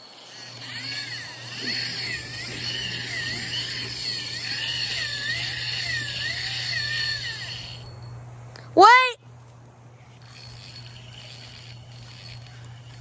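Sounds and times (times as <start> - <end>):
fishing reel drag buzzing: 0.0 - 8.6, 10.0 - 13.0.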